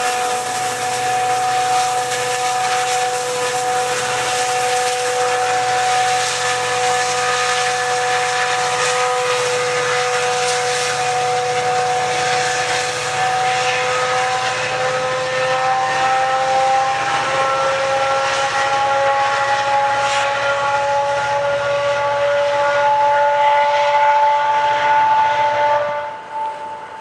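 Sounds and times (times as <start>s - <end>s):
diesel locomotive accelerating: 0.0s - 27.0s.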